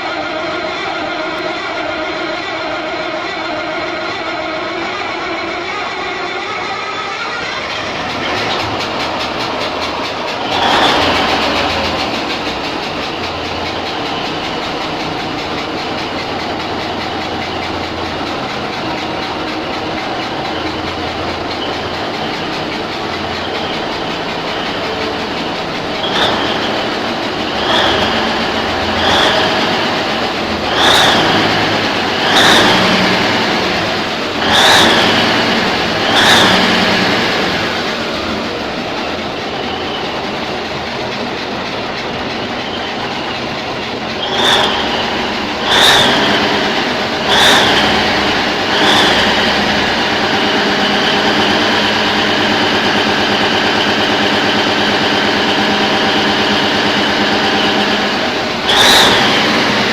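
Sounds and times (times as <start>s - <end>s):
diesel engine running loudly: 0.0s - 59.9s
engine surges with high whistle: 0.0s - 59.9s.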